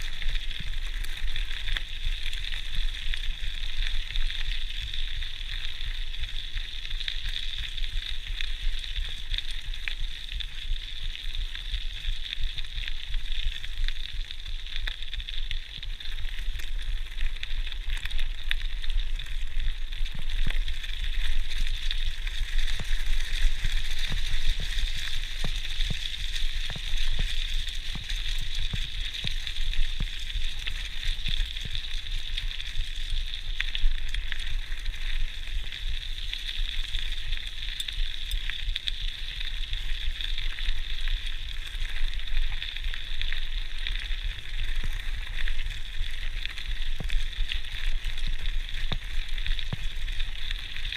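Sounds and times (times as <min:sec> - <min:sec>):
bike tyres crackling on gravel: 0:00.0 - 0:50.9
small clicks and rattles: 0:00.0 - 0:50.9.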